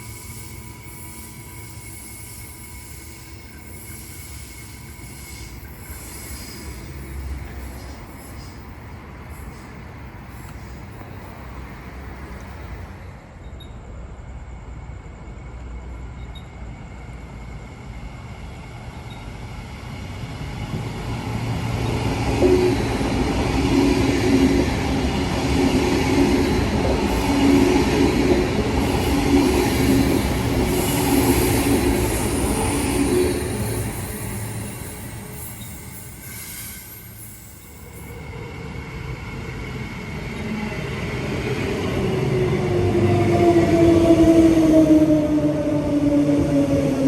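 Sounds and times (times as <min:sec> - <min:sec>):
electric train passing: 0:00.0 - 0:47.0
rail noise: 0:00.0 - 0:47.0.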